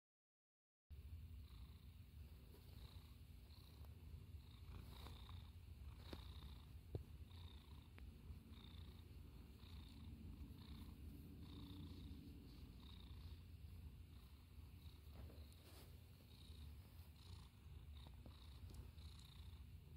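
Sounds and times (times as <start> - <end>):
cat purring: 1.2 - 19.9.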